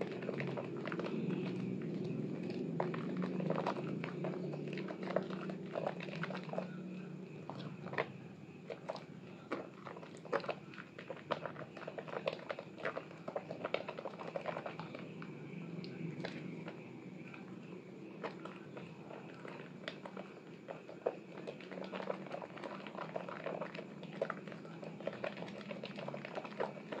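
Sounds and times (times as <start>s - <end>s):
wet soap squelching: 0.0s - 27.0s.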